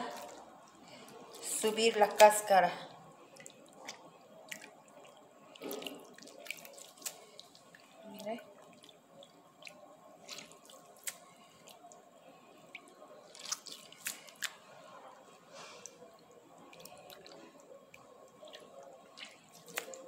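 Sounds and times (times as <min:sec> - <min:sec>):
water dripping and splashing: 0:00.0 - 0:20.0
hands swishing chickpeas in water: 0:03.3 - 0:16.0, 0:16.6 - 0:20.0.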